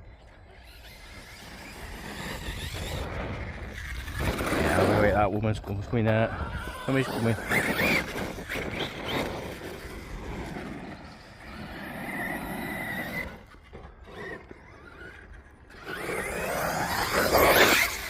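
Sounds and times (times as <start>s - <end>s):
electric motor whining: 0.2s - 5.2s, 6.3s - 18.0s.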